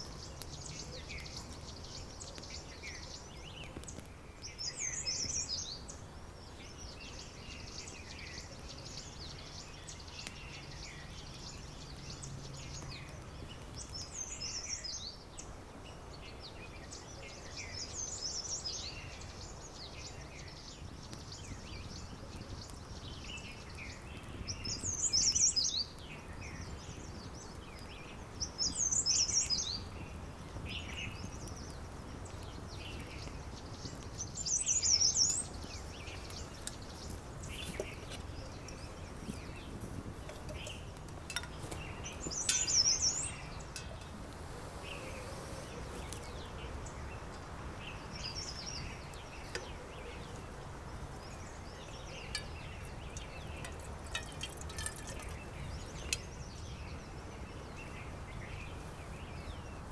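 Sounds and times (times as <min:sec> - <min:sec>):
birds twittering: 0:00.0 - 0:59.9
low background noise: 0:00.0 - 0:59.9.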